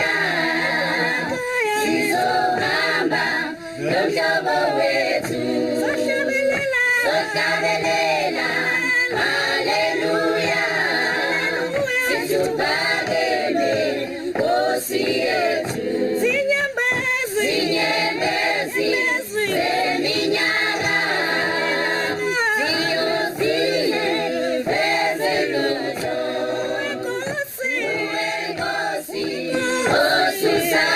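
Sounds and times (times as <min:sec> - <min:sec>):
choir singing: 0:00.0 - 0:30.9.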